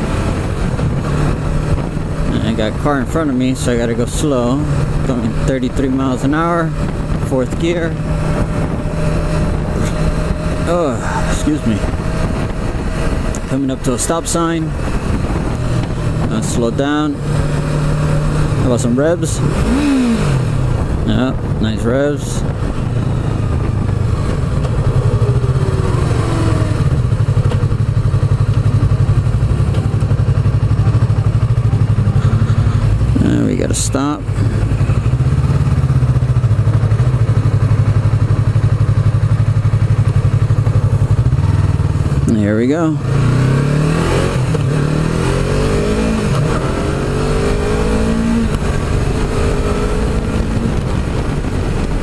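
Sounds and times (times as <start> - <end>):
wind noise on microphone: 0.0 - 33.5, 43.0 - 52.0
motorcycle engine running at low revs: 0.0 - 52.0.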